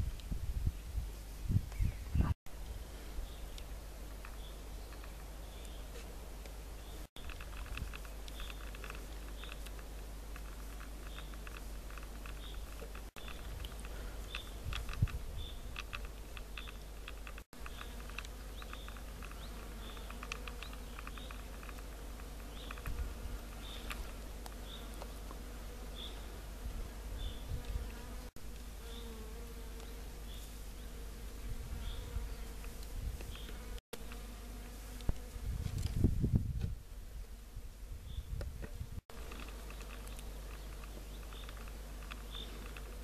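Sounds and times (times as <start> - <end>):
flying insect buzzing: 3.2 - 43.0.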